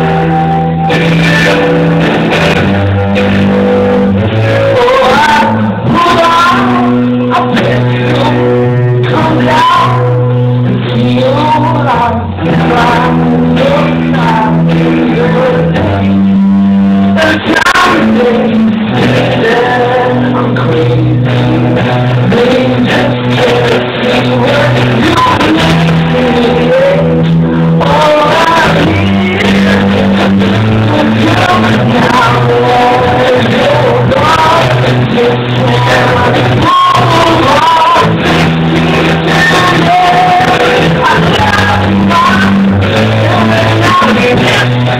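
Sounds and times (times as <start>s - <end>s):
bass guitar: 0.0s - 44.9s
drums: 0.0s - 44.9s
electric guitar: 0.0s - 44.9s
man singing: 0.0s - 44.9s
rock band playing live: 0.0s - 44.9s.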